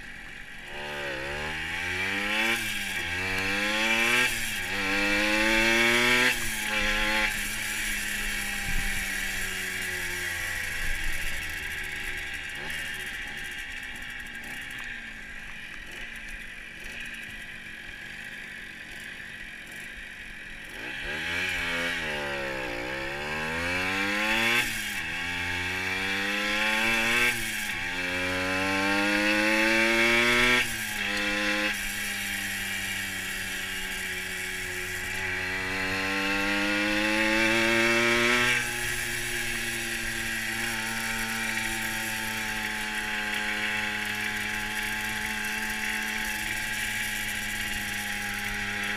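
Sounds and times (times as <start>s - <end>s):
moped engine revving: 0.0s - 48.9s.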